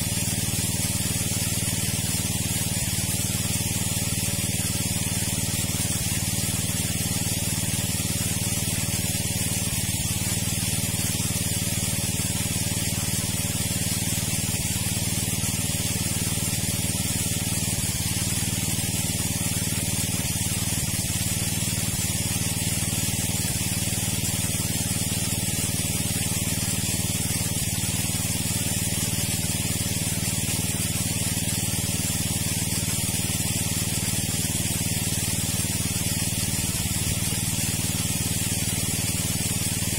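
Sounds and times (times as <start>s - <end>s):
rushing water hiss: 0.0s - 39.9s
water pump humming: 0.0s - 39.9s.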